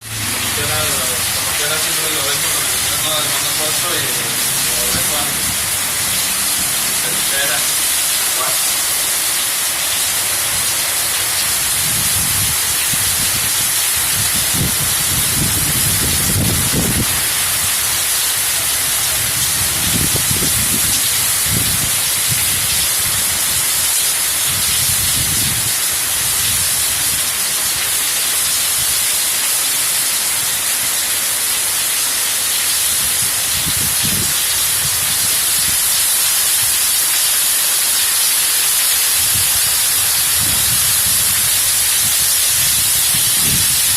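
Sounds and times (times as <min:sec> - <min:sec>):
heavy rain hissing: 0:00.0 - 0:43.9.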